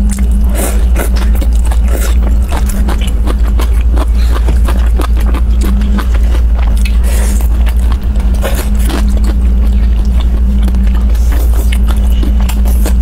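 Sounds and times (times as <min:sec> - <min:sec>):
chewing dumplings: 0:00.0 - 0:13.0
low hum: 0:00.0 - 0:13.0.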